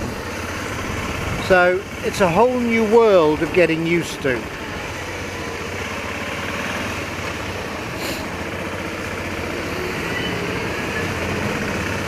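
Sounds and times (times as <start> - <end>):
motorcycle engine running: 0.0 - 12.0
wind and road rush: 0.0 - 12.0.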